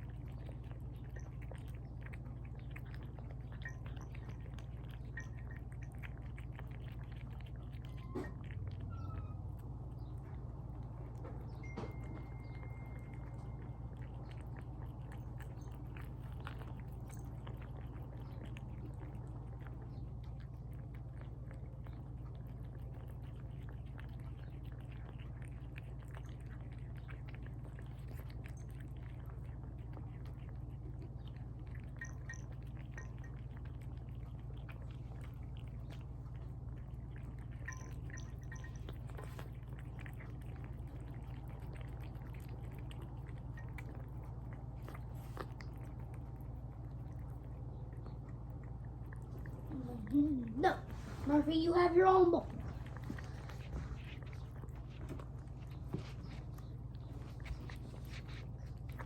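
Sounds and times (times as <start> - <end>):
cats chewing wetly: 0.0 - 59.0
steady low hum: 0.0 - 59.0.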